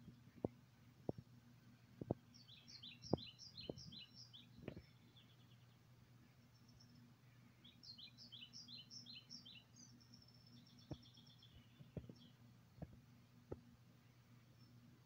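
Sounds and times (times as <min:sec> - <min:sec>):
birdsong from laptop: 0:00.0 - 0:15.0
low steady hum: 0:00.0 - 0:15.0.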